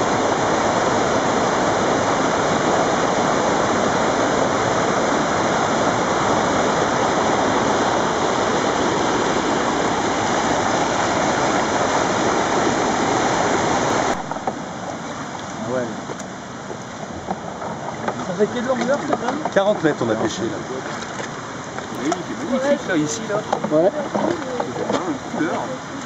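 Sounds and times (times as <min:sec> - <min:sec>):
mountain torrent rushing: 0:00.0 - 0:26.0.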